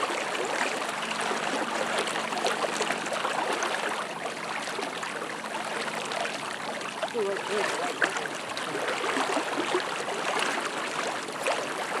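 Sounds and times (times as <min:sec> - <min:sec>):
river water rushing: 0:00.0 - 0:12.0
small splashes and gurgles: 0:00.0 - 0:12.0.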